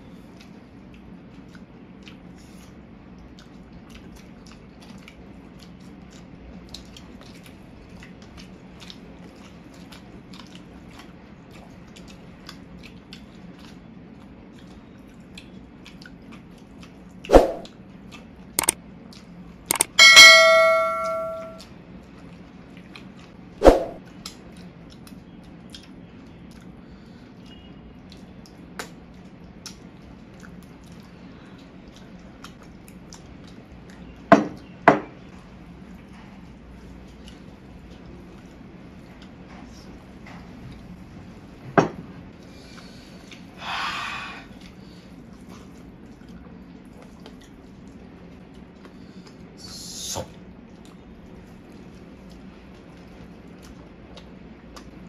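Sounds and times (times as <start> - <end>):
small clicks of eating: 0.0 - 19.9, 21.6 - 23.4, 24.1 - 41.2, 42.3 - 43.6, 44.5 - 49.6, 50.3 - 55.0
chewing smacks: 0.2 - 17.3, 17.9 - 19.4, 22.0 - 23.4, 24.1 - 34.7, 35.3 - 40.9, 44.6 - 49.6, 50.3 - 55.0.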